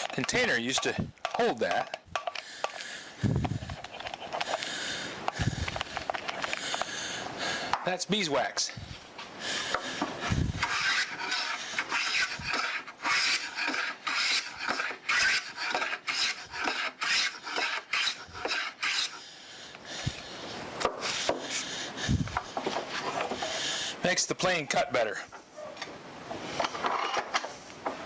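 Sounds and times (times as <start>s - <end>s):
wax scraping on plane sole: 0.0s - 7.9s, 8.8s - 19.2s, 19.9s - 23.8s, 24.4s - 28.0s.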